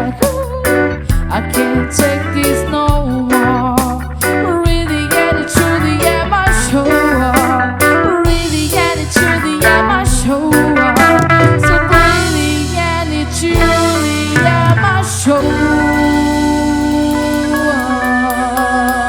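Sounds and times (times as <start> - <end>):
electric guitar melody: 0.0 - 19.0
reggae band playing: 0.0 - 19.0.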